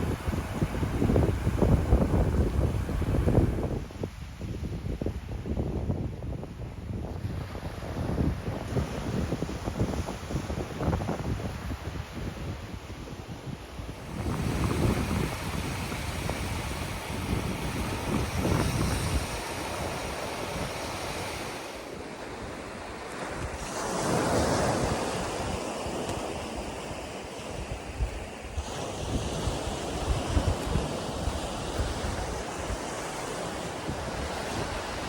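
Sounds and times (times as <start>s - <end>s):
sea waves breaking on shore: 0.0s - 5.6s, 6.2s - 35.0s
wind buffeting microphone: 0.0s - 35.0s.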